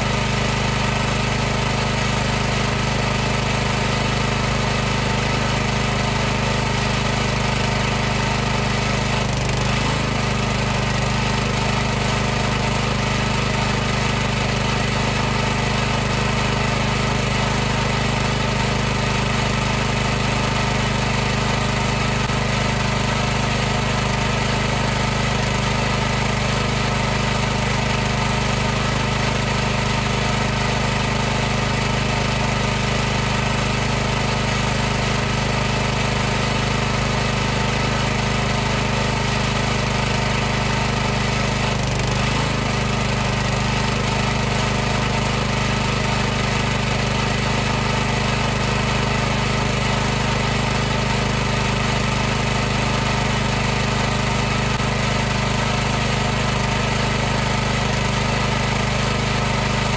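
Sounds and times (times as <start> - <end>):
pressure washer drone: 0.0 - 59.9.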